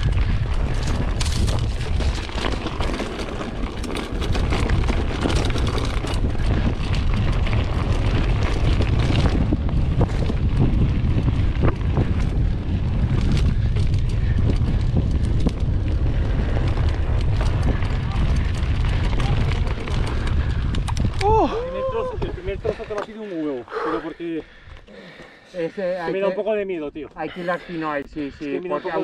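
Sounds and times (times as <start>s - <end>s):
mountain bike rattling over trail: 0.0s - 24.7s
wind buffeting microphone: 0.0s - 24.9s.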